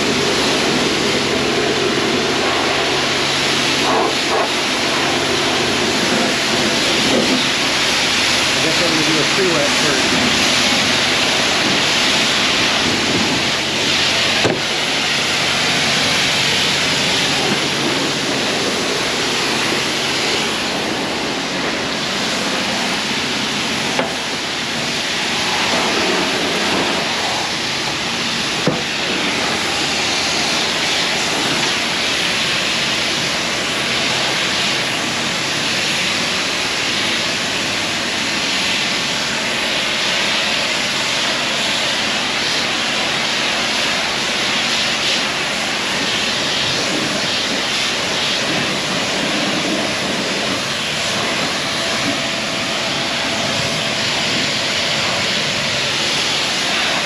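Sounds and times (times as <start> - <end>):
pressure washer spraying water: 0.0 - 57.0.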